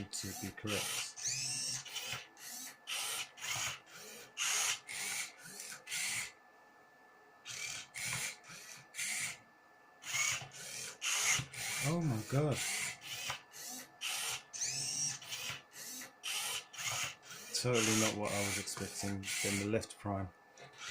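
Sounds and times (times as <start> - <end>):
robot whirring and grinding: 0.3 - 3.8, 4.4 - 6.3, 7.5 - 9.4, 10.0 - 19.7.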